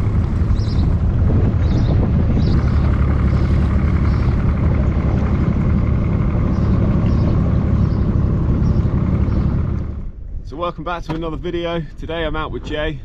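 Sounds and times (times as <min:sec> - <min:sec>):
boat engine droning: 0:00.0 - 0:11.7.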